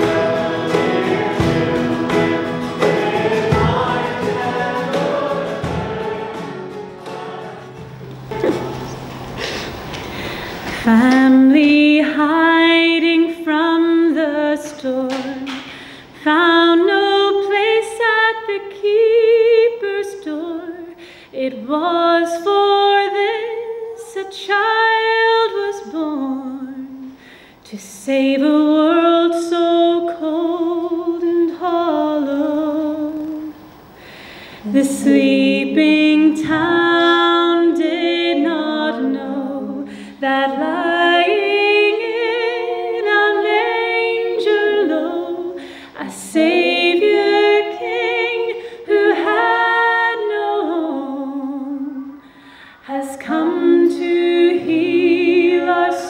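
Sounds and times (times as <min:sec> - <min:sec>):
women singing in harmony: 0:00.0 - 0:09.5, 0:10.6 - 0:33.6, 0:34.6 - 0:56.0.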